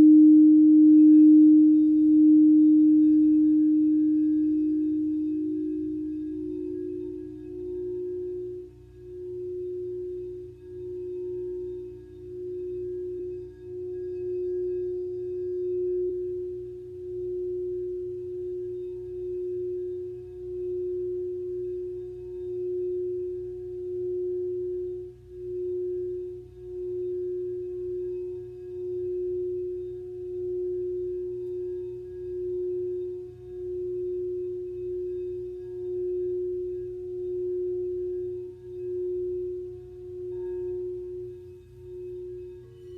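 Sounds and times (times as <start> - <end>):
ringing meditation tone: 0.0 - 42.9.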